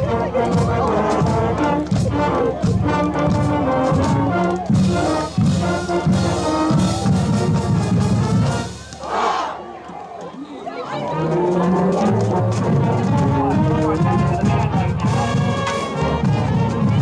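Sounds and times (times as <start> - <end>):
marching band playing brass: 0.0 - 9.8, 10.9 - 17.0.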